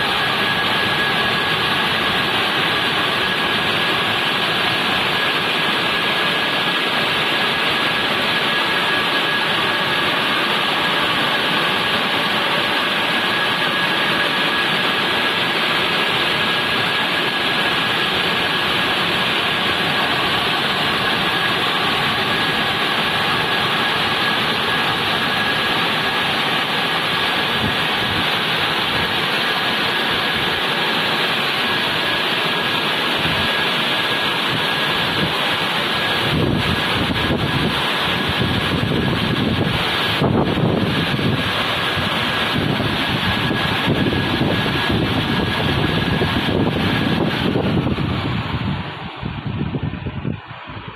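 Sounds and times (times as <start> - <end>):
car wash spray and motor: 0.0 - 50.9
thin steady whine: 0.0 - 50.9.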